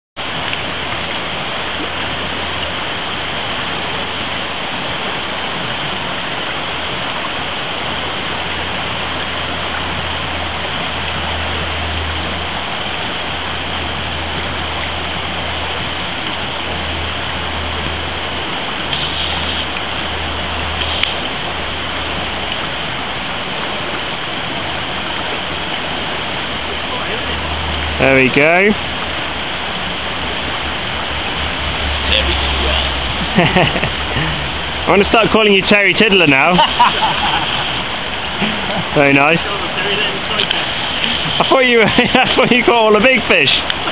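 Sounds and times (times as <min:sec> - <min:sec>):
stream rushing: 0:00.2 - 0:43.9.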